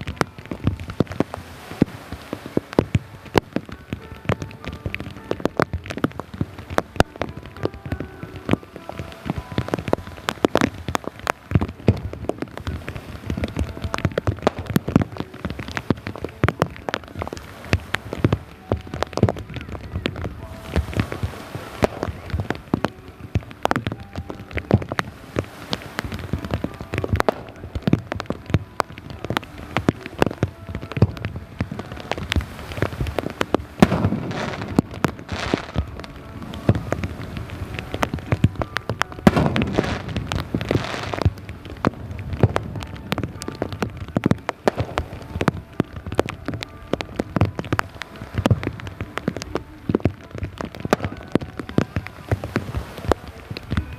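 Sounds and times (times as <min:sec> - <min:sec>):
fireworks bursts: 0:00.0 - 0:53.9
heavy rain pattering: 0:00.0 - 0:53.9.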